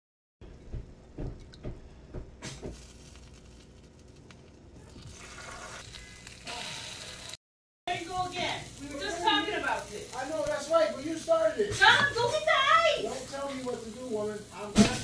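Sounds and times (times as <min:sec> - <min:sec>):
eggs sizzling on griddle: 0:02.7 - 0:15.0.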